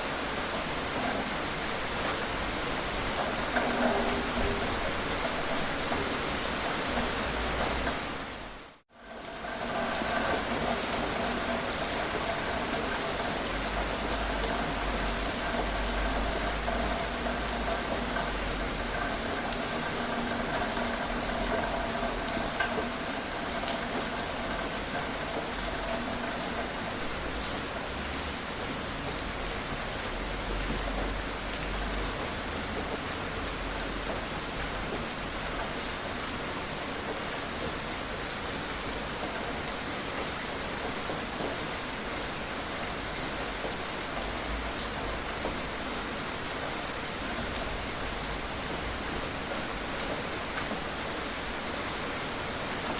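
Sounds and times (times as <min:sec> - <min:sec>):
gentle rain pattering: 0:00.0 - 0:52.9.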